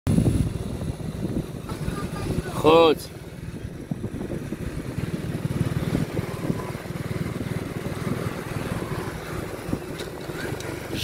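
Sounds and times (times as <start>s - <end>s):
motorbike engine running: 0.1s - 11.0s.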